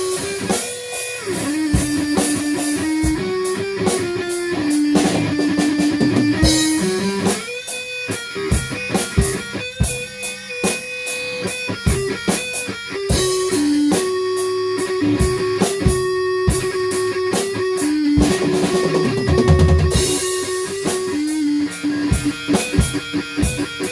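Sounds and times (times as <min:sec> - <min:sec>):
drum kit beat: 0:00.0 - 0:23.9
electric guitar held notes: 0:00.0 - 0:23.9.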